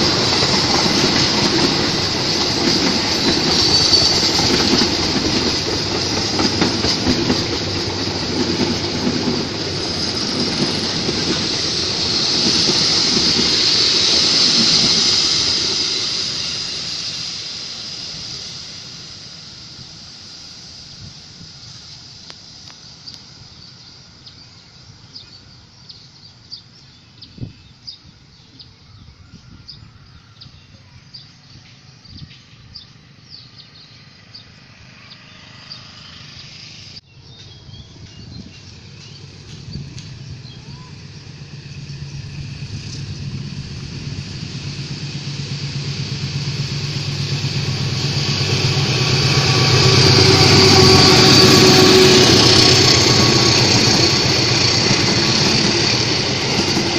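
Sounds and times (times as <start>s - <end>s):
diesel locomotive engine throbbing: 0.0s - 26.2s, 28.0s - 56.9s.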